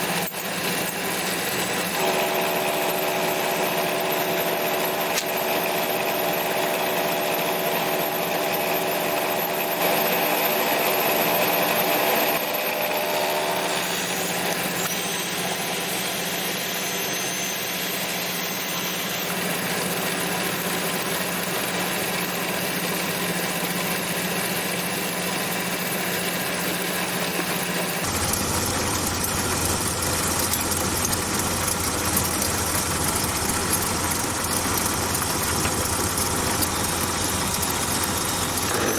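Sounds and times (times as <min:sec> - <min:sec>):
machine tool milling metal: 0:00.0 - 0:38.9.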